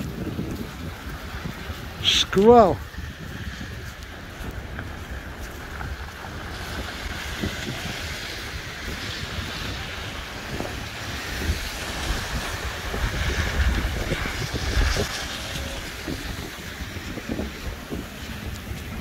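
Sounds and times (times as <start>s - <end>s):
storm wind buffeting microphone: 0.0s - 19.0s
tyres hissing on wet road: 0.0s - 19.0s.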